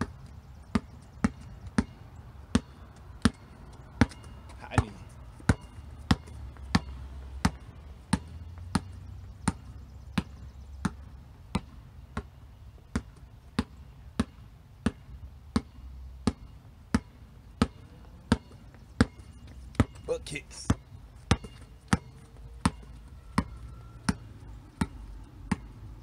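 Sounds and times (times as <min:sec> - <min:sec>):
basketball bouncing on concrete: 0:00.0 - 0:26.0.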